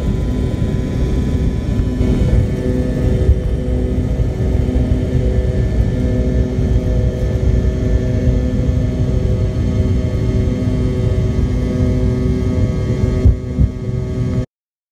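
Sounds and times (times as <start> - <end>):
jet engines roaring at takeoff: 0.0 - 14.5.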